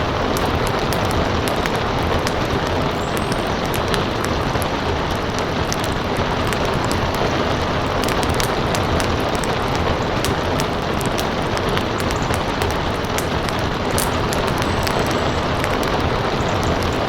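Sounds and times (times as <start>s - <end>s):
rain hiss: 0.0s - 17.0s
wood fire crackling and popping: 0.0s - 17.0s.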